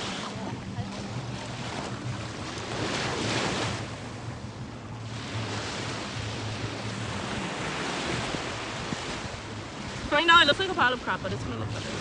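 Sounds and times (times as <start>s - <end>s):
ocean surf washing on shore: 0.0s - 12.0s
wind rumbling on microphone: 0.0s - 12.0s.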